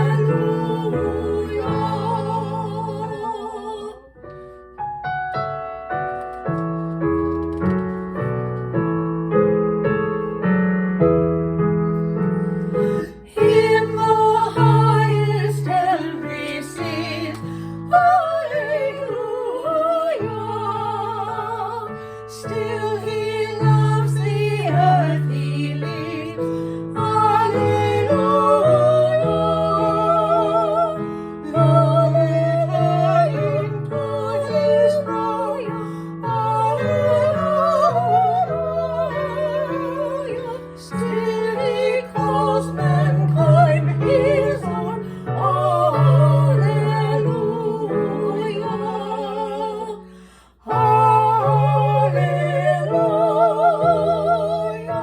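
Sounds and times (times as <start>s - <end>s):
women singing: 0.0s - 4.3s, 12.7s - 55.0s
piano playing: 0.0s - 55.0s.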